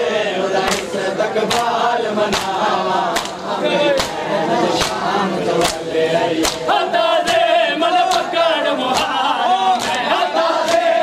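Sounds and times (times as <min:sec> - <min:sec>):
men chanting in unison: 0:00.0 - 0:11.0
hands slapping chests: 0:00.6 - 0:00.9, 0:01.5 - 0:04.2, 0:04.8 - 0:10.9.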